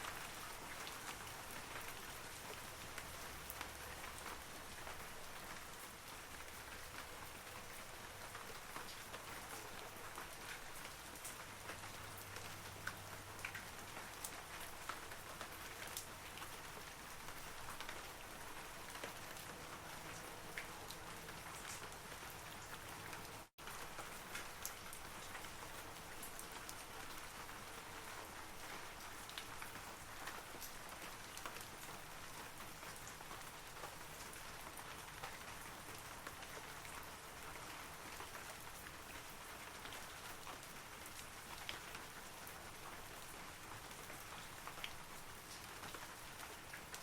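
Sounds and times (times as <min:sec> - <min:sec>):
steady rain on trees: 0:00.0 - 0:47.0.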